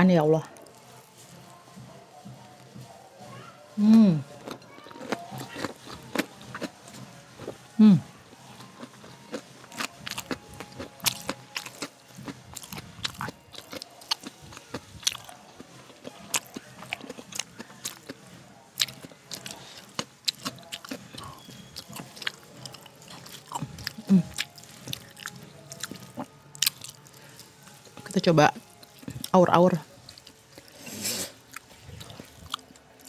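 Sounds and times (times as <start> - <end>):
person chewing crunchy food: 4.3 - 7.6, 8.4 - 33.0.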